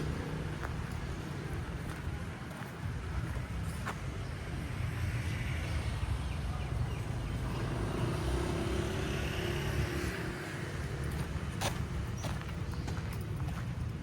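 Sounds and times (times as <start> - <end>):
motor vehicle passing: 0.0 - 2.0, 3.0 - 13.6
engine hum: 0.0 - 14.0.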